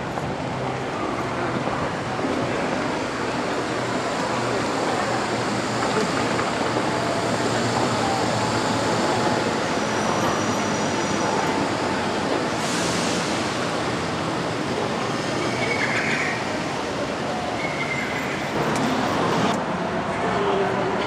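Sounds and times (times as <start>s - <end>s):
monorail train rolling: 0.0s - 21.0s.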